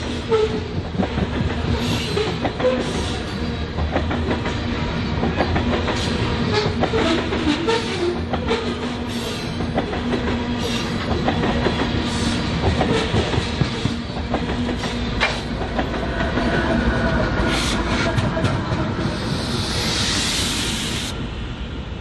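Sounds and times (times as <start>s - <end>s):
train wheels clicking over rail joints: 0.0s - 21.1s
train rumble: 0.0s - 22.0s.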